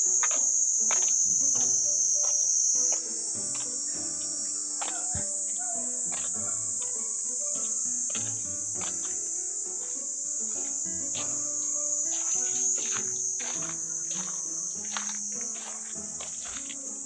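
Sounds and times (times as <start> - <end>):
insect chorus shrilling: 0.0 - 17.0
soft background music: 0.0 - 17.0.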